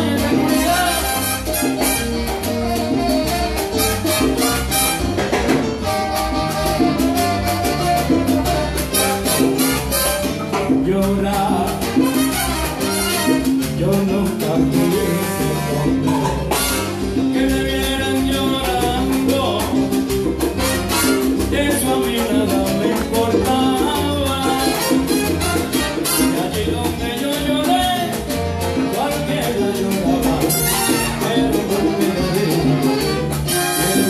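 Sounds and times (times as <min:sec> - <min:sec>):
congas rhythm: 0:00.0 - 0:34.0
salsa orchestra playing: 0:00.0 - 0:34.0.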